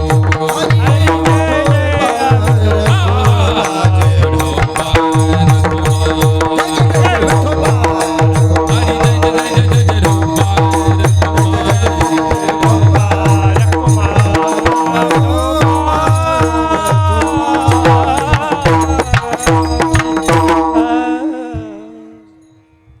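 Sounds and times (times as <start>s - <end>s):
rapid hand-drum strokes: 0.0s - 20.8s
person singing: 0.0s - 22.5s.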